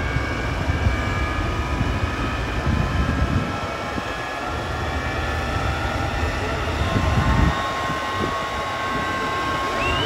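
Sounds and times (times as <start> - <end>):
high turbine whine: 0.0 - 10.0
jet engine idling: 0.0 - 10.0.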